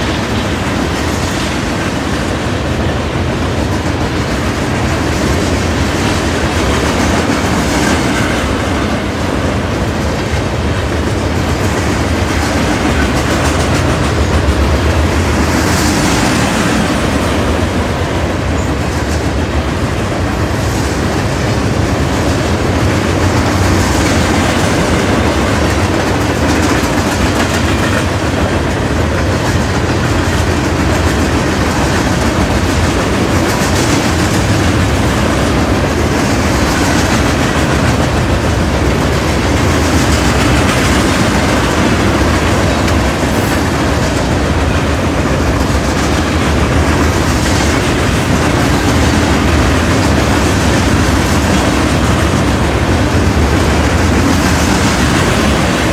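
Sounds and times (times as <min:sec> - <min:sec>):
steel wheels rumbling on rail: 0:00.0 - 0:55.9.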